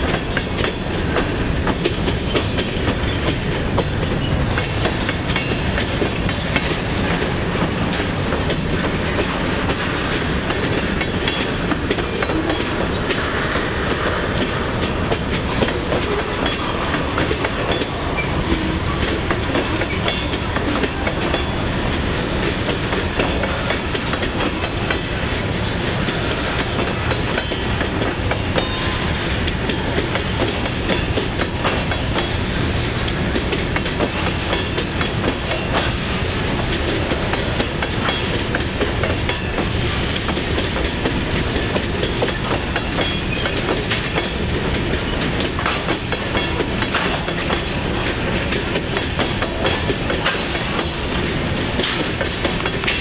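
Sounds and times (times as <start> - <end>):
freight train wheels rumbling: 0.0 - 53.0
wheels clicking over rail joints: 0.0 - 53.0.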